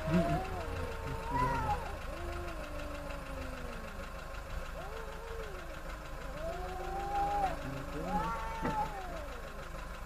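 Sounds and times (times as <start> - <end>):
cats yowling: 0.0 - 9.7.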